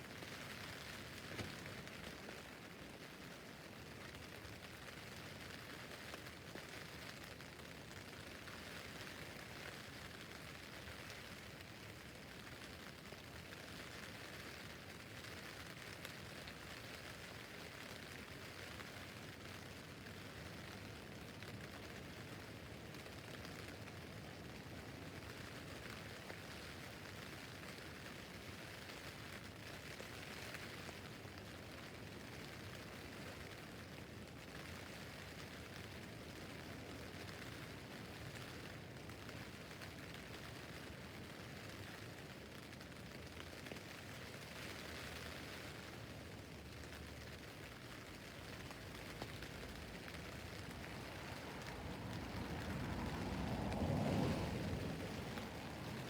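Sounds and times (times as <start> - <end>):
rain pattering on a tent roof: 0.0 - 56.0.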